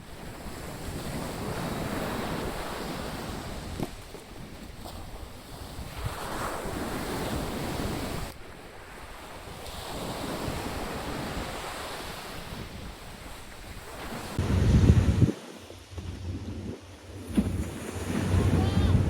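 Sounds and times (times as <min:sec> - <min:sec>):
waves breaking on beach: 0:00.0 - 0:19.0
wind rumbling on microphone: 0:00.0 - 0:19.0.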